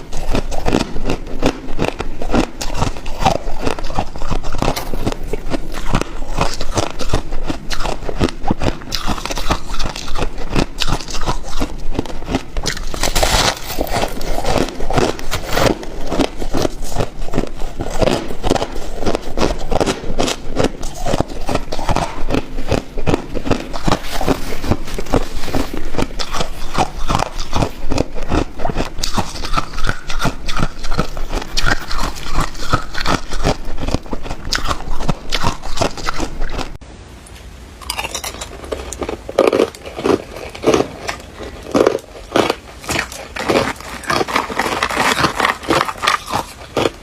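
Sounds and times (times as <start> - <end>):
person crunching ice: 0.0 - 36.8, 37.8 - 47.0.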